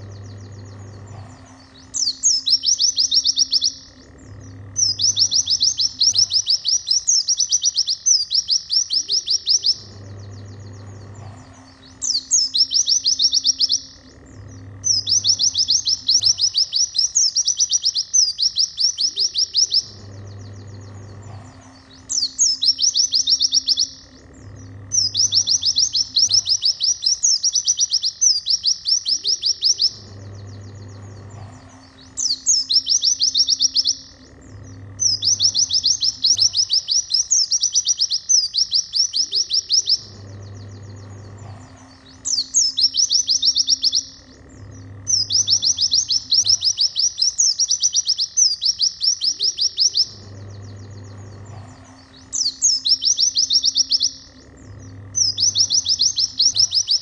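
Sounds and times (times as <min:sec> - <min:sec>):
bird trilling song: 0:00.0 - 0:57.0.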